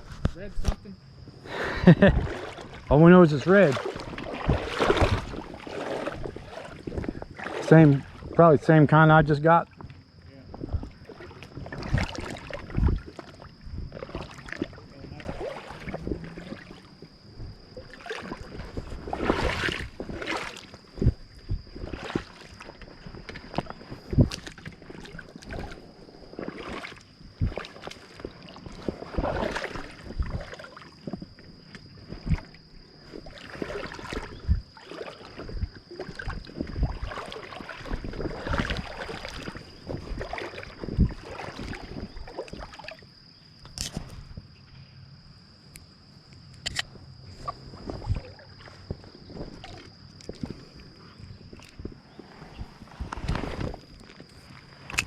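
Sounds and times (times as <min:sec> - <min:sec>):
creek water splashing: 0:00.0 - 0:44.4, 0:46.6 - 0:55.0.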